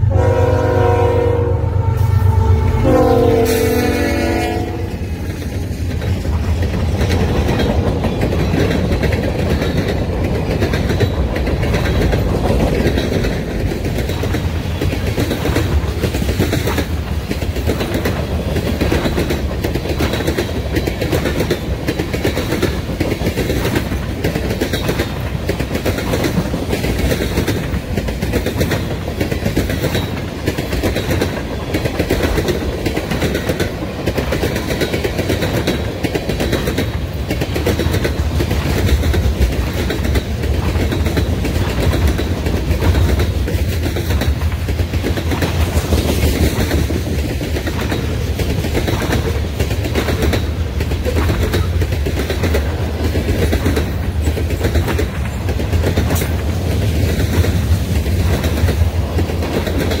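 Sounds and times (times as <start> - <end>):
steel wheels rumbling on rails: 0.0 - 60.0
wheels clicking over rail joints: 4.9 - 60.0.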